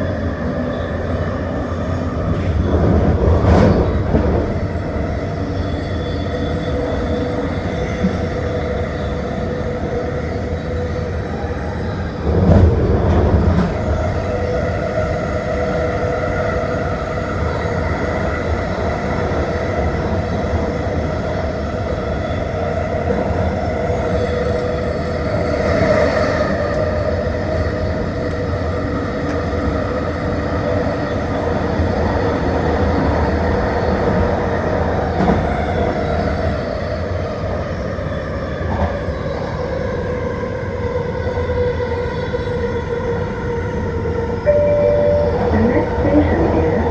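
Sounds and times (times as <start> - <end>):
train rumble: 0.0 - 46.9.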